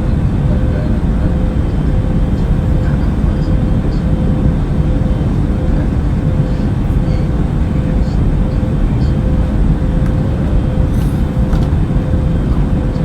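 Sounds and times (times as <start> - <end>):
aircraft engine droning: 0.0 - 13.0.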